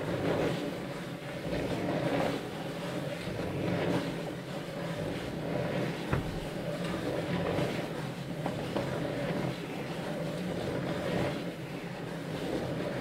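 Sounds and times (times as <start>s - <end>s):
whir of turning discs: 0.0s - 13.0s.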